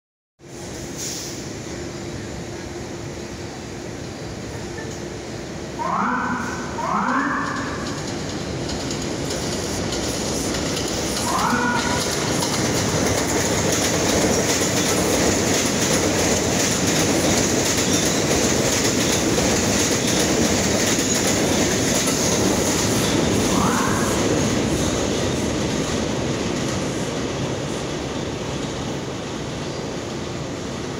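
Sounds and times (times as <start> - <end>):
subway train wheels rumbling on rail: 0.4 - 30.9.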